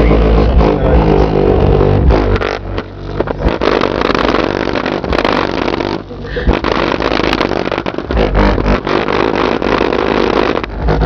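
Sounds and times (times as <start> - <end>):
loud bass-heavy music: 0.0 - 11.0.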